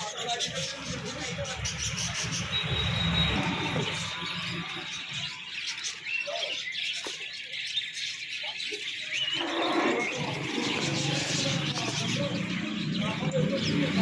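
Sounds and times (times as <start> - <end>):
caged birds chirping: 0.0 - 14.0.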